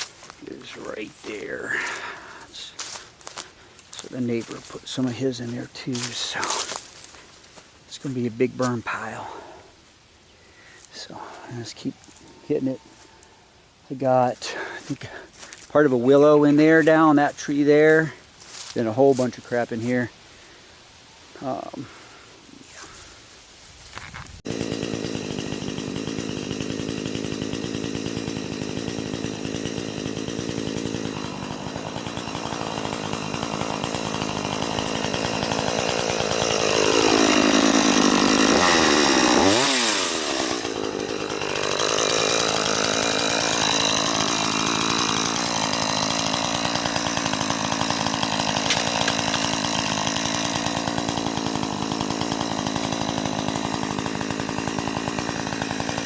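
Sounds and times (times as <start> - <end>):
chainsaw cutting branches: 0.0 - 9.6, 14.3 - 20.0, 23.9 - 56.0.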